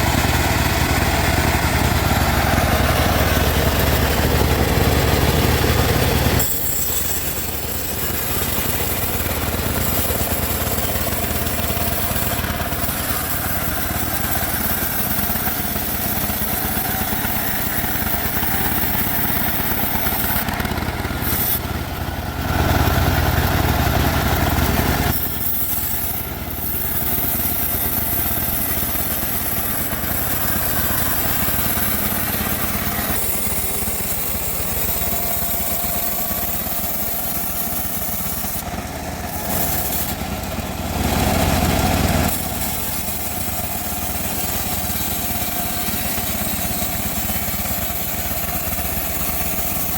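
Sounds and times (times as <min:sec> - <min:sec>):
bandsaw sawing logs: 0:00.0 - 0:49.9.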